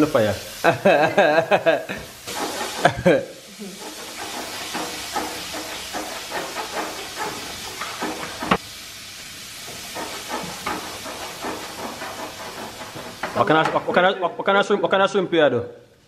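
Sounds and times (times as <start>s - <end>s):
food sizzling in a frying pan: 0.0s - 15.3s.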